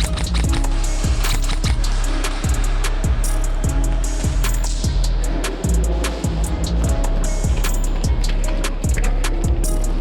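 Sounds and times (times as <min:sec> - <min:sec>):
heavy bass drum hits: 0:00.0 - 0:10.0
high percussion ticks: 0:00.0 - 0:10.0.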